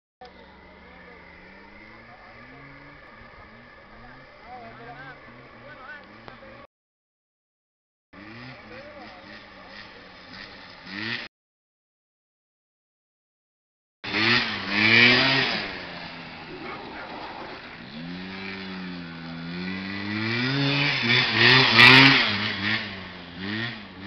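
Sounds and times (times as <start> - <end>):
motorcycle engine revving: 0.2 - 6.7, 8.1 - 11.3, 14.0 - 24.0.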